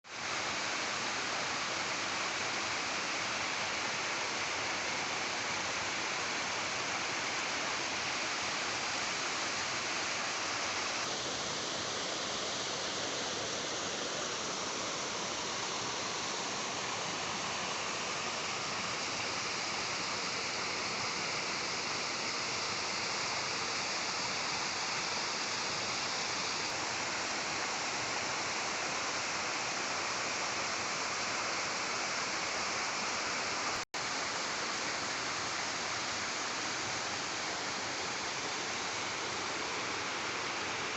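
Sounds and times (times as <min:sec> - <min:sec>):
waterfall rushing: 0:00.2 - 0:40.9.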